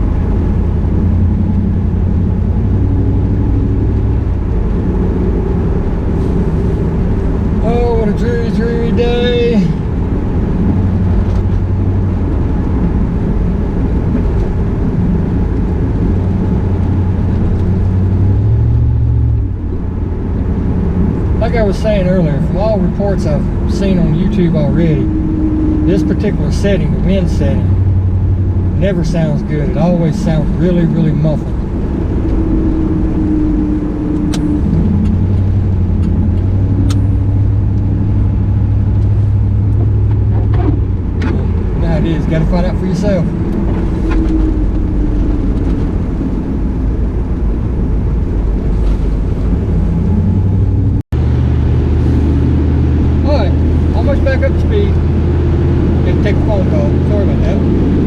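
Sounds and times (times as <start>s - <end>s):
car engine drone: 0.0s - 58.0s
road noise inside cabin: 0.0s - 58.0s.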